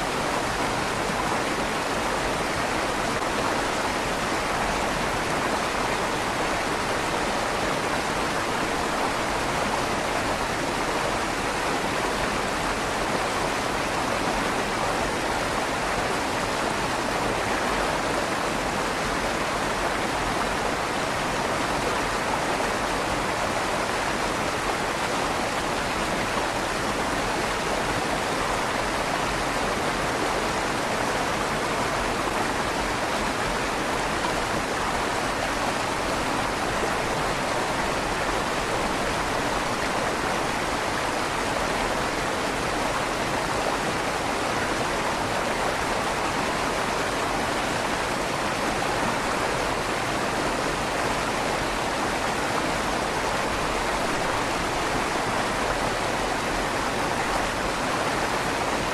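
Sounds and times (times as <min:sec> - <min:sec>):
river water rushing: 0:00.0 - 0:58.9.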